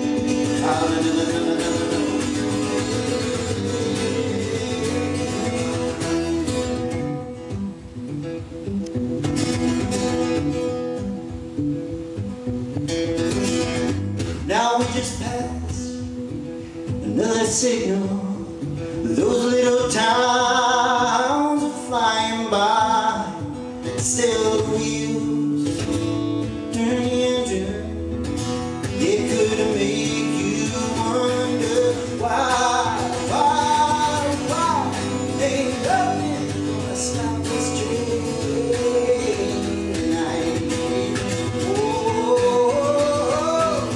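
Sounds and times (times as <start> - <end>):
man singing: 0.0 - 6.8, 14.4 - 43.9
acoustic guitar: 0.0 - 43.9.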